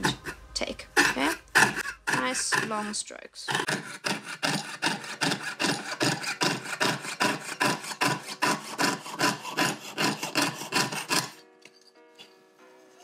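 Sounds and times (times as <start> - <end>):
saw rasping through metal sheet: 0.0 - 11.5.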